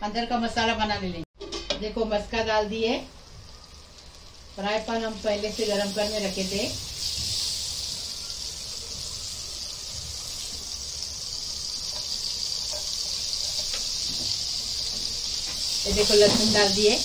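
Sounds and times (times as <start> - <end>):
garlic sizzling: 2.0 - 17.0
butter sizzling in a frying pan: 2.3 - 17.0.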